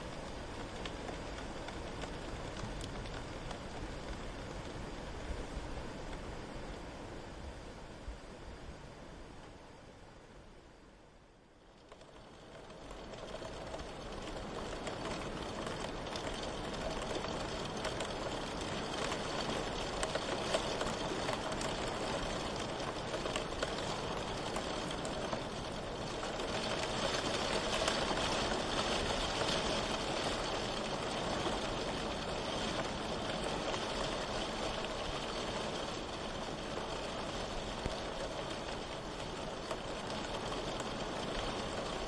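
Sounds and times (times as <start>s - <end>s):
raindrop ticks: 0.0s - 4.8s, 11.6s - 42.0s
steady rain falling: 0.0s - 42.0s.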